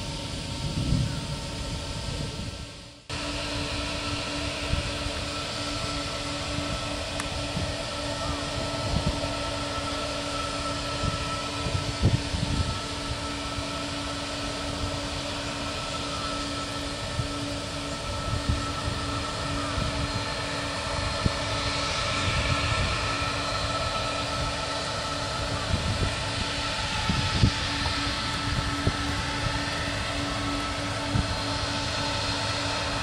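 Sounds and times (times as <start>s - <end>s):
jet engines whining: 0.0s - 33.0s.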